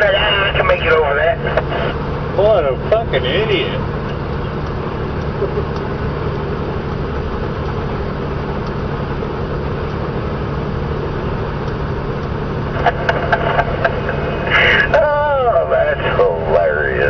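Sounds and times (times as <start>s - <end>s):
road and tyre noise: 0.0s - 17.0s
truck engine drone: 0.0s - 17.0s.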